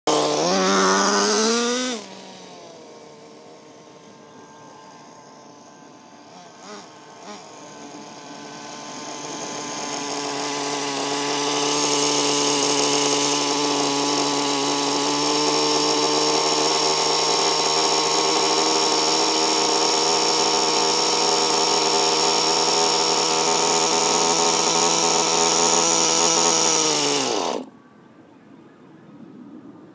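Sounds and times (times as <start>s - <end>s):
small electric air pump buzzing: 0.1s - 27.7s.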